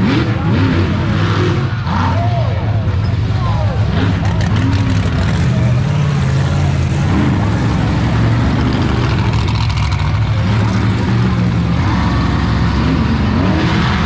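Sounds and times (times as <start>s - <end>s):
monster truck engines running: 0.0s - 14.0s.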